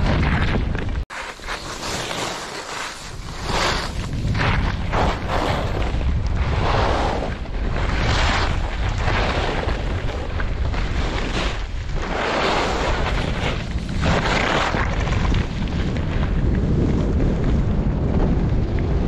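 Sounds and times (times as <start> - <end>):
wind rumble on microphone: 0.0 - 1.1, 2.9 - 19.0
skis carving snow: 0.0 - 19.0.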